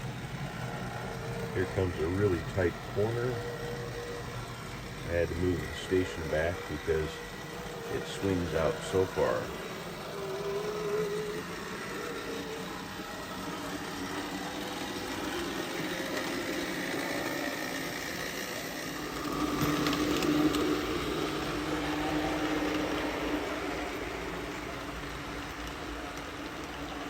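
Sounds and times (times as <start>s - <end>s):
model train motor whining: 0.0s - 27.0s
wheels rattling on rails: 0.0s - 27.0s.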